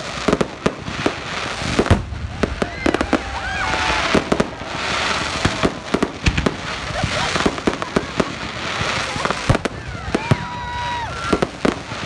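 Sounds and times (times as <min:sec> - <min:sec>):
continuous hiss: 0:00.0 - 0:12.0
fireworks bangs: 0:00.0 - 0:12.0.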